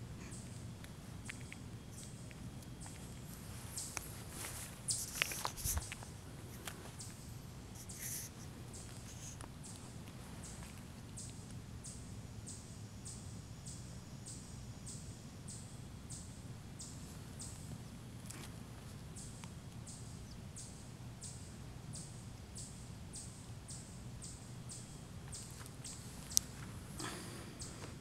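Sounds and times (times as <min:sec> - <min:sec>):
small animal chirping: 0:00.0 - 0:18.4, 0:19.1 - 0:26.6
low outdoor rumble: 0:00.0 - 0:28.0.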